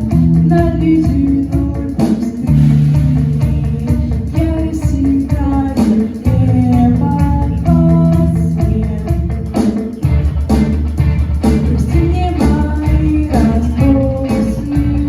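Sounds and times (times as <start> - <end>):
guitar and bass: 0.0 - 15.0
person singing: 0.4 - 10.0, 11.4 - 15.0.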